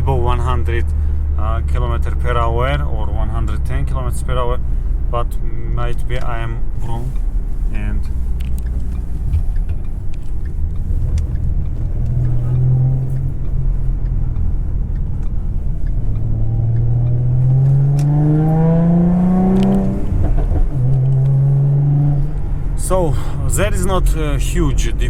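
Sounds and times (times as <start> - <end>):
car engine accelerating: 0.0 - 25.0
low road rumble: 0.0 - 25.0.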